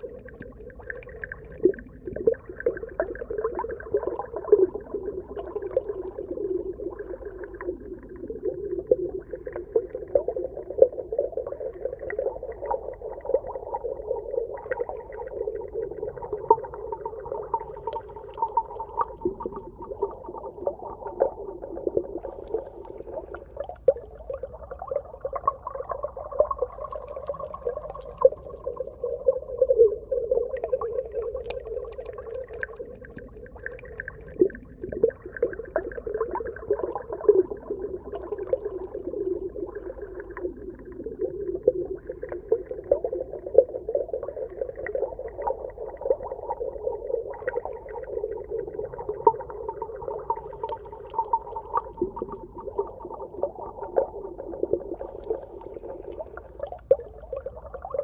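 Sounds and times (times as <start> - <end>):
dense underwater crackling: 0.0 - 58.0.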